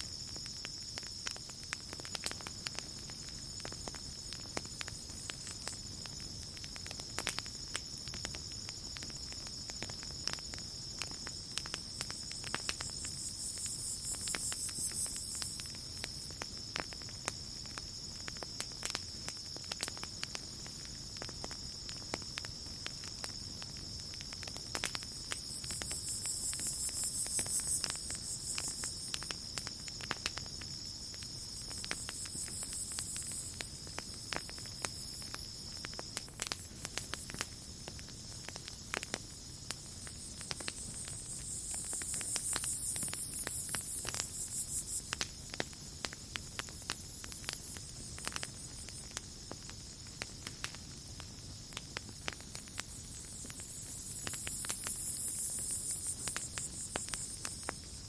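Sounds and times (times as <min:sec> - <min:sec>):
campfire crackling: 0:00.0 - 0:58.0
cricket trill: 0:00.0 - 0:58.0
high insect trill: 0:00.0 - 0:58.0.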